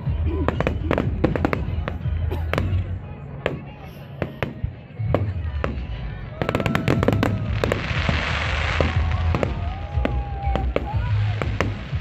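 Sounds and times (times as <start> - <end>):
fireworks crackling and fizzing: 0.0 - 12.0
fireworks bangs and cracks: 0.1 - 12.0.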